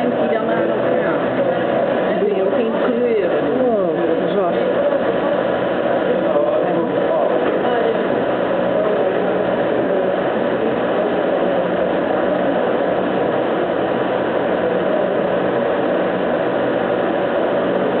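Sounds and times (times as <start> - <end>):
laser cutter humming: 0.0 - 18.0.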